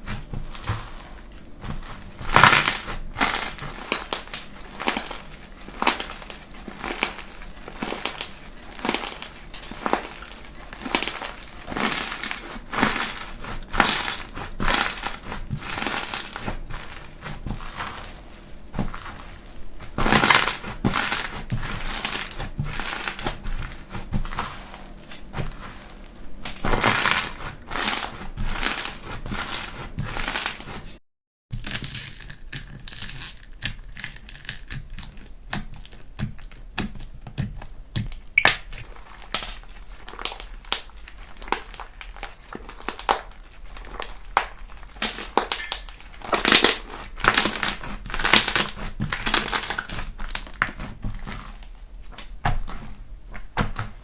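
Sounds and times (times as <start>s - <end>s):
slime squeezed crackling and popping: 0.0s - 30.8s, 31.6s - 52.9s.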